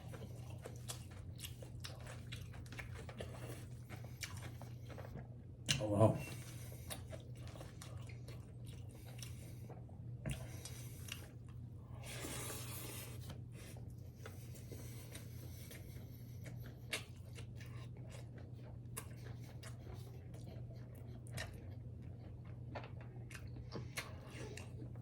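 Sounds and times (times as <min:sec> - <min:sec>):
person chewing food: 0:00.0 - 0:25.0
steady low hum: 0:00.0 - 0:25.0.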